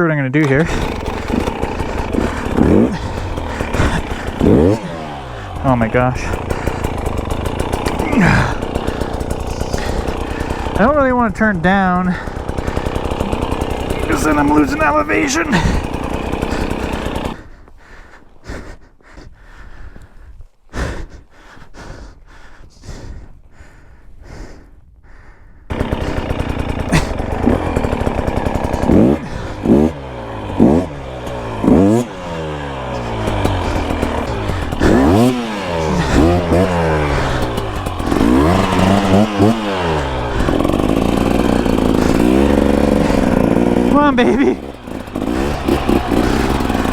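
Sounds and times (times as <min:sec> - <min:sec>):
dirt bike engine revving: 0:00.0 - 0:17.5, 0:25.7 - 0:46.9.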